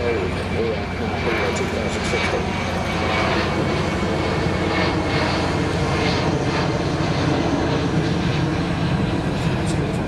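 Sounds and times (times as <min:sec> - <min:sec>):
jet engines of flying aircraft: 0:00.0 - 0:10.0.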